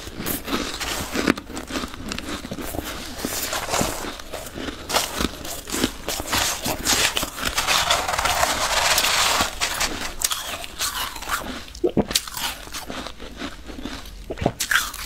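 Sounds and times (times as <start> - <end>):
chewing frost crackles: 0.0 - 15.0
metal spoon crunching frost: 0.0 - 15.0.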